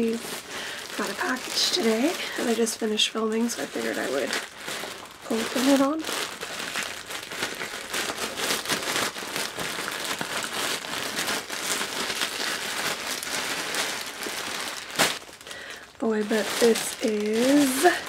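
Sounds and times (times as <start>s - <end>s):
packaging crinkling: 0.0s - 18.0s.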